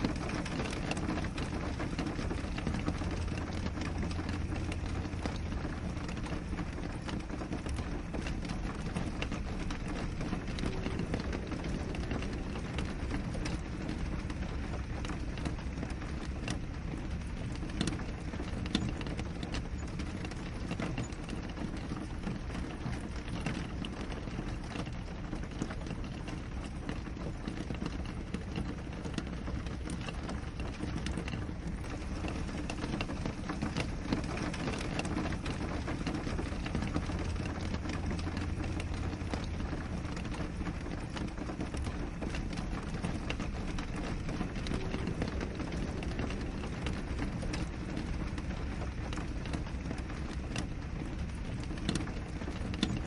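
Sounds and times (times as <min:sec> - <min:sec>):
rain on a window pane: 0:00.0 - 0:53.0.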